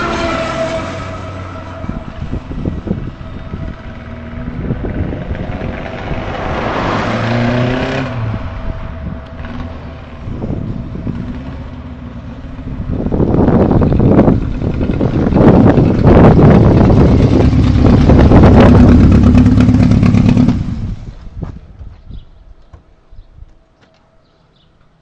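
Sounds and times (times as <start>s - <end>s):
car engine revving: 0.0s - 21.1s
loud rough noise: 0.0s - 21.2s.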